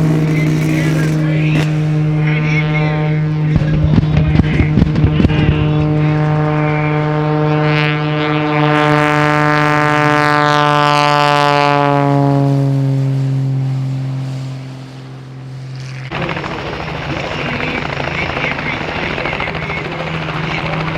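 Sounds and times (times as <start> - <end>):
propeller plane engine passing: 0.0 - 20.9.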